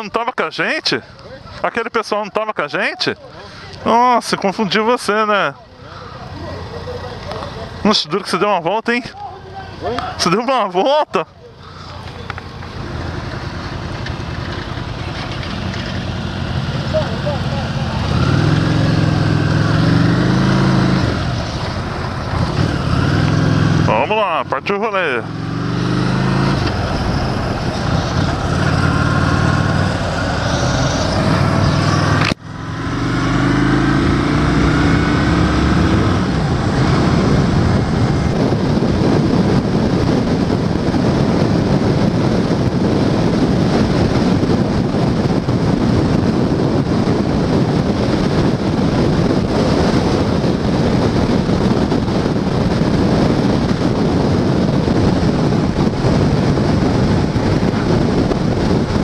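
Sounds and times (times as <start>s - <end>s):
wind and road noise: 0.0s - 59.0s
motorcycle engine accelerating: 11.7s - 59.0s.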